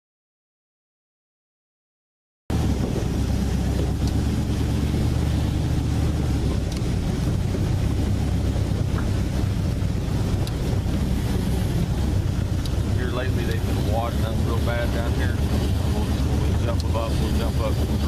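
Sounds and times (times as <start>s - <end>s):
boat engine running: 2.5s - 18.0s
wind buffeting microphone: 2.5s - 18.0s.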